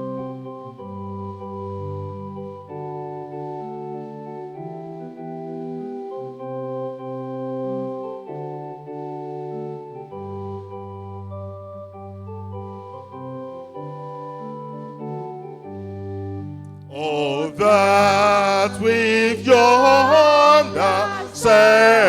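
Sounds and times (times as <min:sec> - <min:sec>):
hymn played on keyboard: 0:00.0 - 0:22.0.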